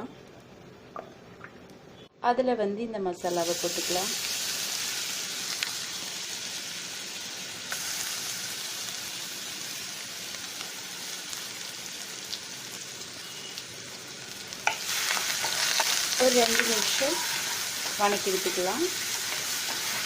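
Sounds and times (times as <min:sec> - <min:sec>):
paste sizzling in hot oil: 0:03.2 - 0:20.0.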